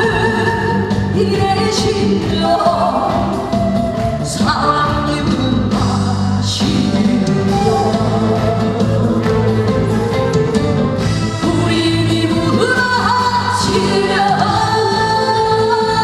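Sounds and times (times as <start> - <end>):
live band playing: 0.0 - 16.0
person singing: 0.0 - 16.0.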